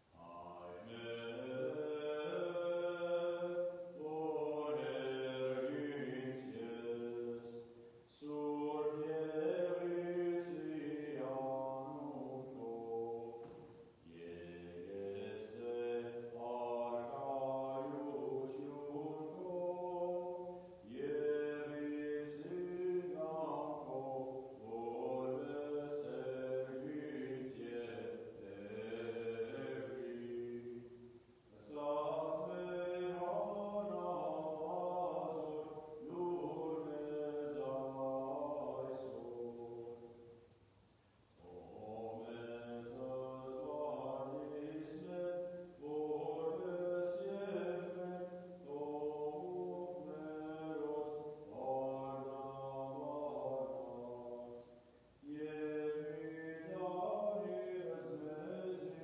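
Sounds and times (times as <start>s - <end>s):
liturgical chant singing: 0.0s - 40.6s, 41.3s - 59.0s.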